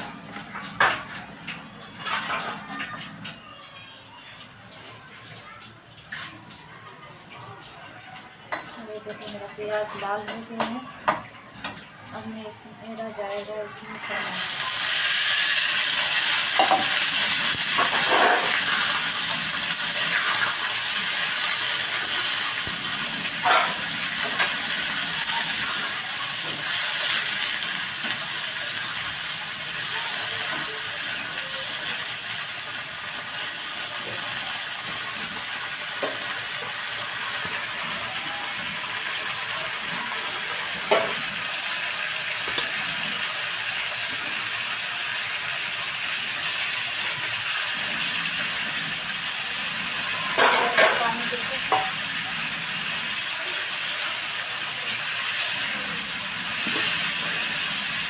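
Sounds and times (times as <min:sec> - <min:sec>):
chickpeas sizzling in oil: 0:08.4 - 0:58.0.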